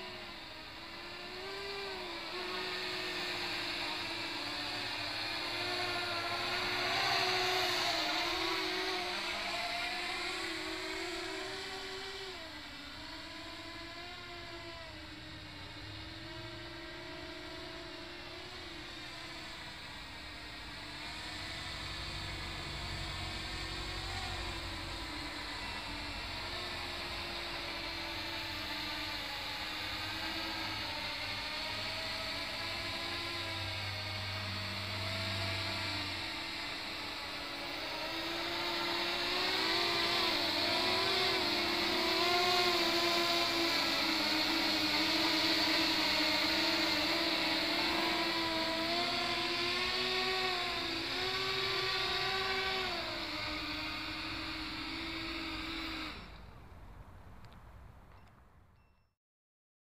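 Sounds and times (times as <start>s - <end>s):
drone propellers whirring: 0.0s - 58.3s.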